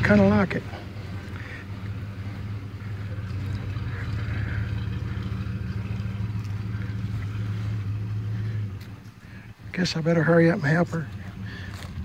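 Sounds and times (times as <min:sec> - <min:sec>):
pickup truck engine running quietly: 0:00.0 - 0:12.0.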